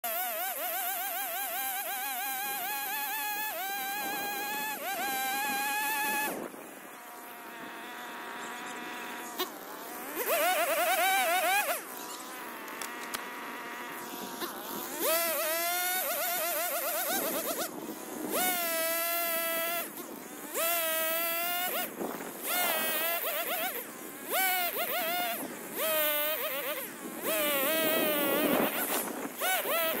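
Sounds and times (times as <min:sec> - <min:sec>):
chainsaw buzzing: 0:00.0 - 0:30.0.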